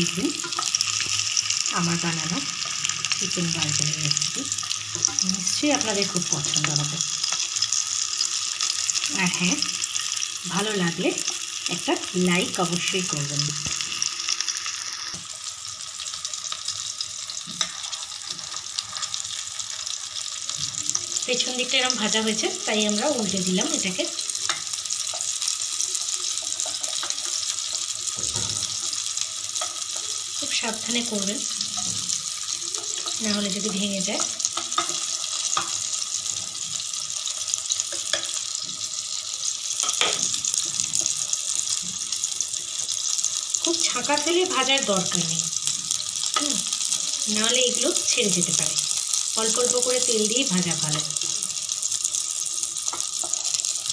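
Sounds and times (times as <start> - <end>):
patties sizzling in hot oil: 0.0 - 53.9.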